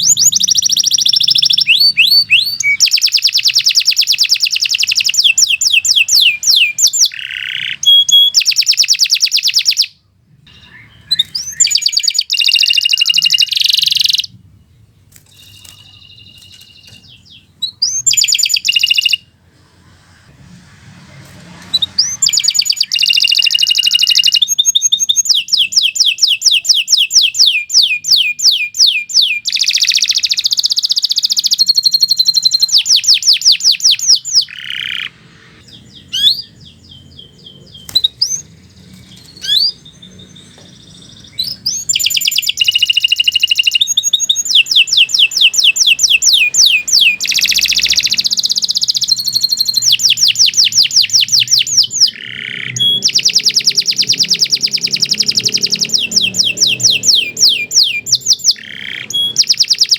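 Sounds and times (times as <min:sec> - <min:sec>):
canary singing trills: 0:00.0 - 0:19.3, 0:21.7 - 0:59.9.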